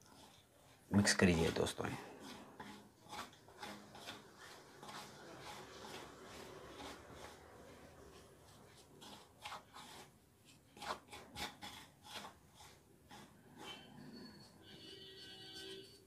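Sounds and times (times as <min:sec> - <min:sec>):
hand scraping powder in metal bowl: 0:00.0 - 0:16.0.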